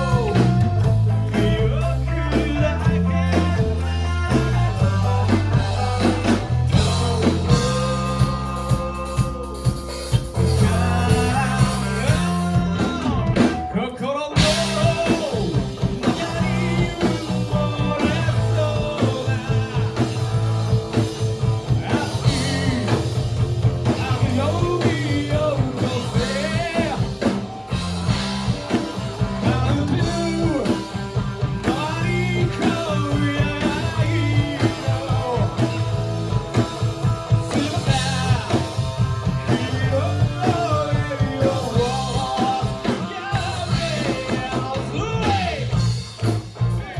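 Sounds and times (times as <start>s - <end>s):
person singing: 0.0s - 23.2s, 23.8s - 27.9s, 28.7s - 36.8s, 37.4s - 45.8s
live rock band playing: 0.0s - 46.9s.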